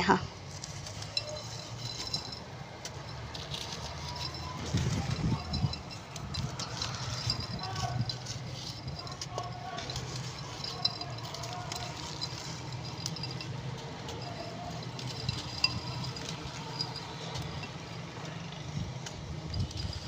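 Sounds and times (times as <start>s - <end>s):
brick dust crumbling by hand: 0.4s - 20.0s.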